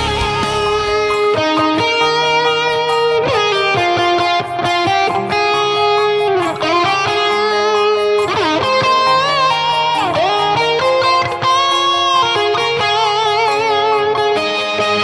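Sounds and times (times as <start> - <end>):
distorted electric guitar lead: 0.0 - 15.0.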